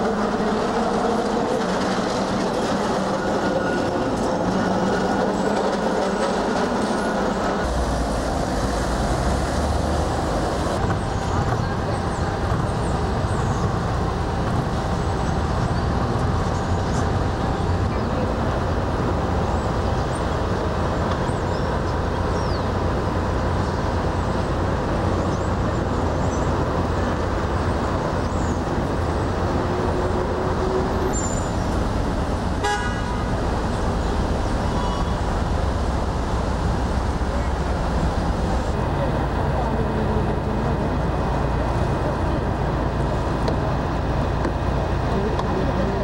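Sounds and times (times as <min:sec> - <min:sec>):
vehicle engine and road noise: 0:07.5 - 0:46.0.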